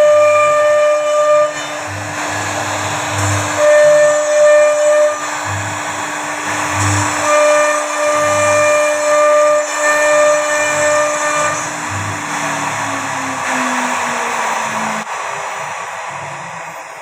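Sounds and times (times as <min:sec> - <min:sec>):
bit cutting wood hiss: 0:00.0 - 0:17.0
router spindle whine: 0:00.0 - 0:17.0.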